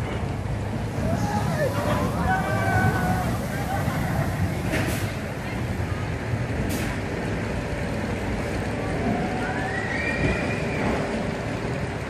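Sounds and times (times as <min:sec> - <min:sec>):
roller coaster rumbling on track: 0:00.0 - 0:12.0.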